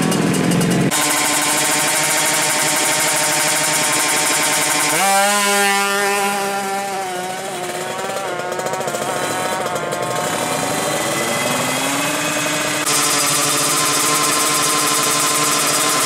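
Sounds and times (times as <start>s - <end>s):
second engine rising in pitch: 0.0s - 16.0s
two-stroke motorcycle engine revving: 0.0s - 16.0s.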